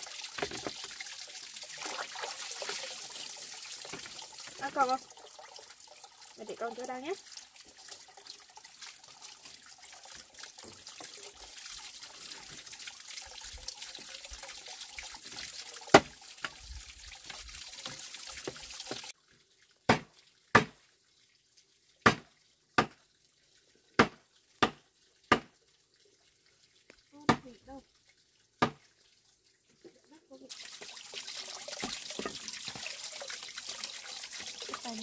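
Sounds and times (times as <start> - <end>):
water running: 0.0 - 21.1, 21.8 - 35.0.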